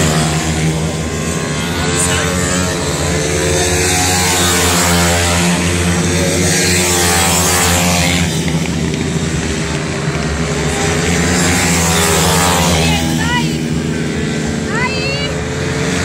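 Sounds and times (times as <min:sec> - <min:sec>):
pit bike engines revving: 0:00.0 - 0:16.0.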